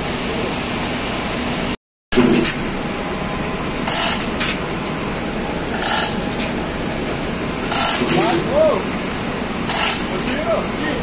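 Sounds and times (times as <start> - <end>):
industrial machinery noise: 0.0 - 11.0.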